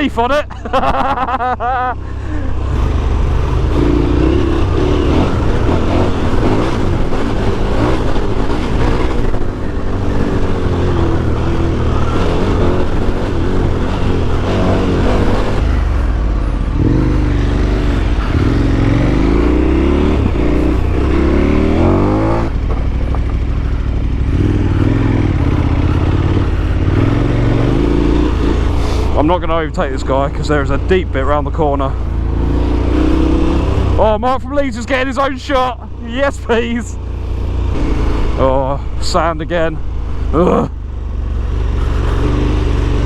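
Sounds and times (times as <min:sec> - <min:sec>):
motorcycle engine revving: 0:00.0 - 0:43.0
wind and ground rumble: 0:02.7 - 0:40.4.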